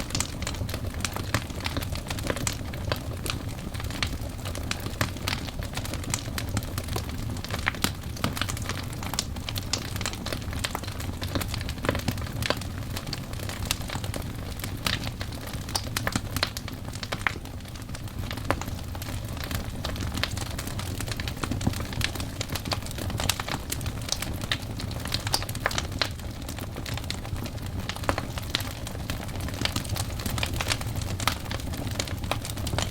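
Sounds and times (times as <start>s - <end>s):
logs crackling and popping: 0.0s - 32.9s
low rumble of flames: 0.0s - 32.9s.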